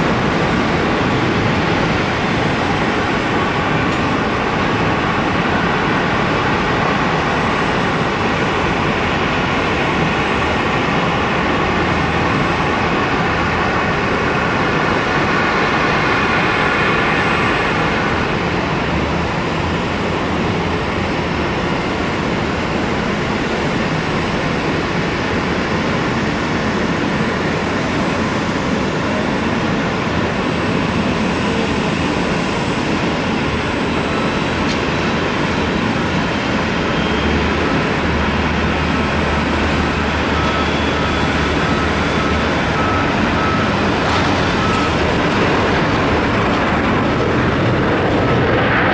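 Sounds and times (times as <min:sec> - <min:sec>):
jet engine whine: 0:00.0 - 0:48.9
jet engines rumbling: 0:00.0 - 0:48.9.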